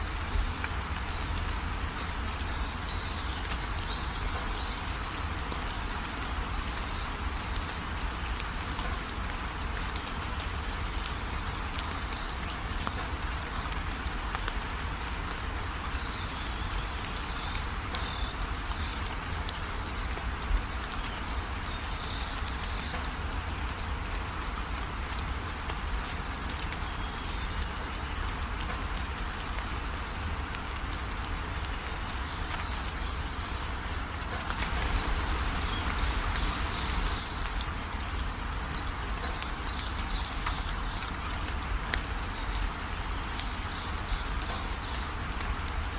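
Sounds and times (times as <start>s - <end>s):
small birds chirping: 0.0s - 45.9s
steady rain: 0.0s - 45.9s.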